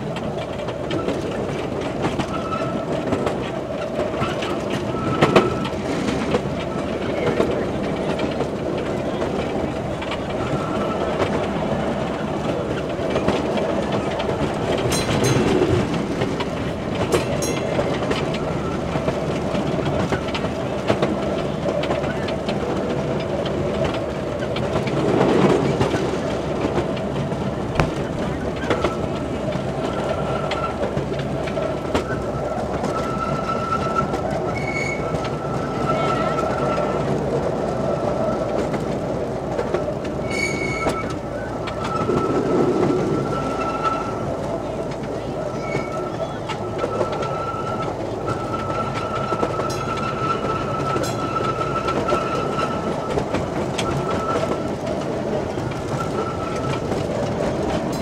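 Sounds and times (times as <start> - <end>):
train wheels clattering on track: 0.0 - 58.0.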